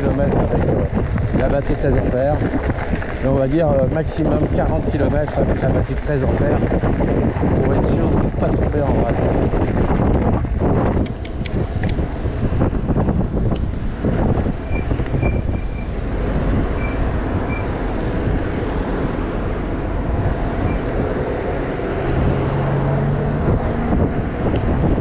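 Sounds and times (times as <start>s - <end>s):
bike tyres rolling over track: 0.0s - 25.0s
wind rumble on microphone: 0.0s - 25.0s.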